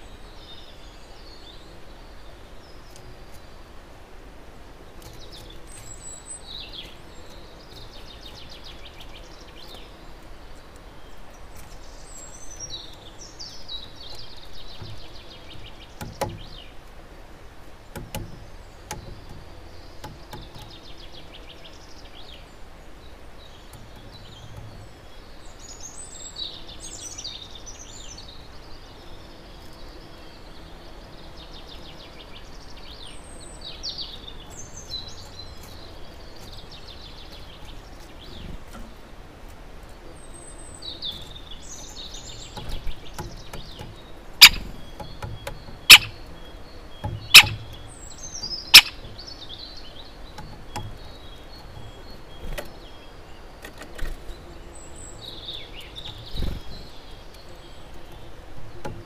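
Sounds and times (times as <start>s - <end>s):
small birds chirping and trilling: 0.0s - 59.0s
steady outdoor hiss: 0.0s - 59.0s.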